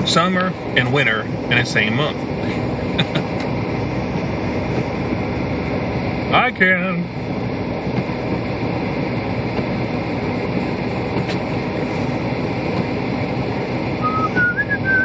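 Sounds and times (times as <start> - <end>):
car heater fan blowing: 0.0 - 15.0
engine and road noise: 0.0 - 15.0.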